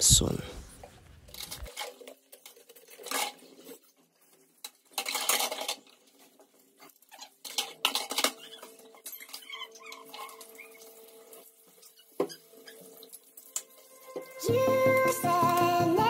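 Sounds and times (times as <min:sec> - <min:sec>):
dishes scrubbed and knocking together: 0:00.8 - 0:14.3.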